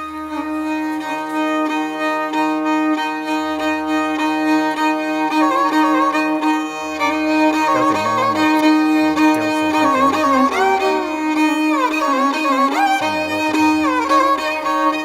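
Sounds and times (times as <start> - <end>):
steady drone: 0.0 - 15.0
violin melody with vibrato: 0.0 - 15.0.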